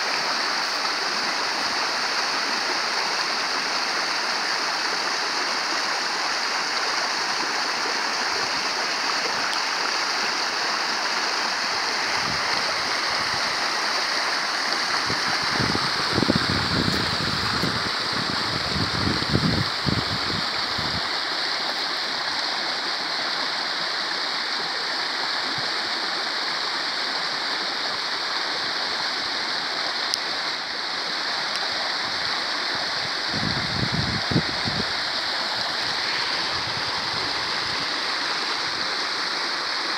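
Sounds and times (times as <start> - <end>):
water rushing from an outfall: 0.0 - 39.9.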